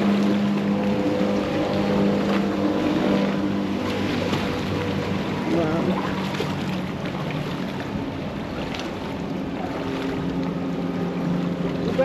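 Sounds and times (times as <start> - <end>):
motorboat engine droning: 0.0 - 12.0
surf: 0.0 - 12.0
wind: 0.0 - 12.0.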